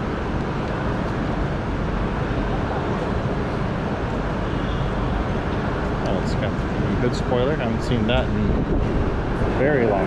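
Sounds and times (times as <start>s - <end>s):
low rumbling outdoor din: 0.0s - 10.0s.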